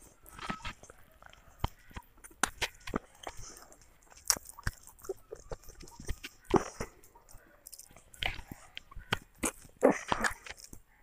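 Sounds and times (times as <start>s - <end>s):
boy chewing food: 0.0s - 11.0s
mouth clicks and smacks: 0.2s - 11.0s.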